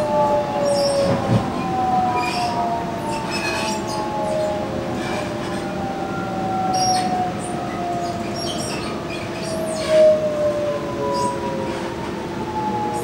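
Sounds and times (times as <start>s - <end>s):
squeaks and rattles of train: 0.3s - 10.4s, 11.1s - 13.0s.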